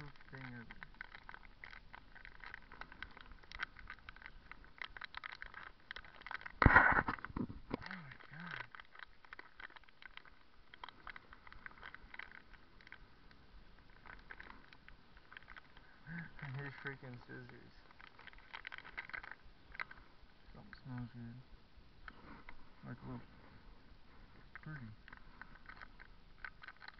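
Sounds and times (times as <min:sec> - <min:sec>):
snack packet crackling: 0:00.0 - 0:20.1, 0:24.5 - 0:26.9.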